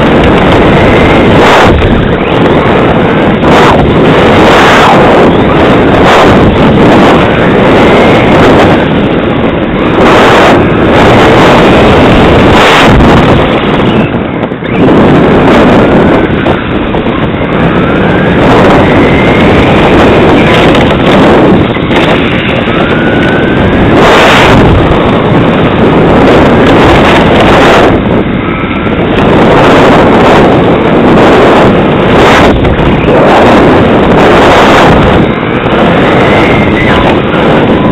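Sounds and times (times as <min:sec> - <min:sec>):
electric motor whine: 0:00.0 - 0:37.9
tyre and drivetrain noise: 0:00.0 - 0:37.9
wind buffeting microphone: 0:00.0 - 0:37.9.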